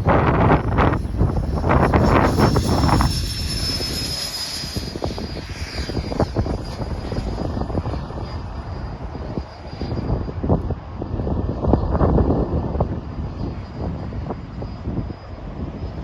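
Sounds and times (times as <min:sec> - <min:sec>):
electric ducted fans whining: 0:00.0 - 0:16.0
wind buffeting microphone: 0:00.0 - 0:16.0.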